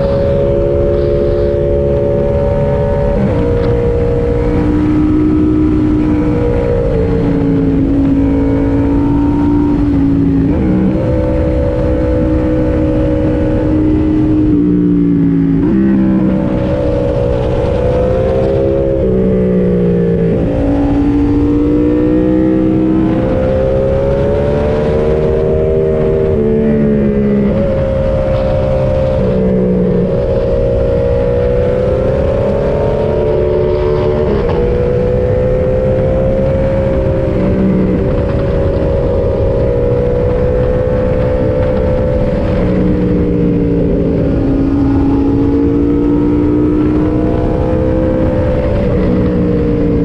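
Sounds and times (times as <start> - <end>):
motorcycle engine shifting gears: 0.0 - 50.0.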